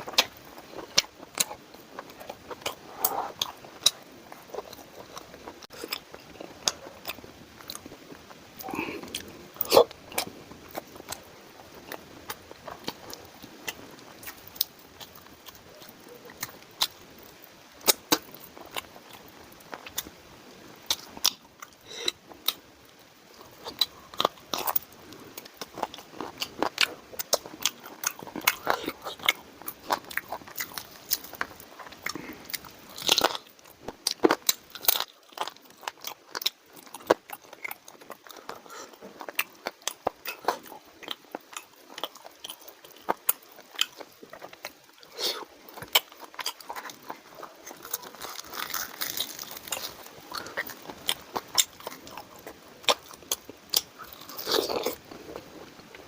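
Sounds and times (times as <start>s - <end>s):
person chewing crisp food: 0.0s - 20.2s, 20.8s - 56.0s.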